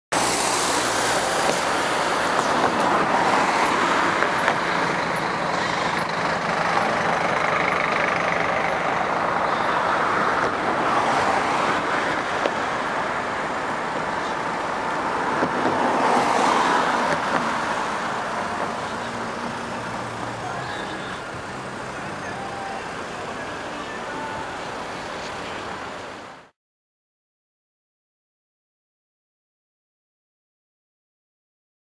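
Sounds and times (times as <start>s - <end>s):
road traffic passing: 0.1s - 26.5s.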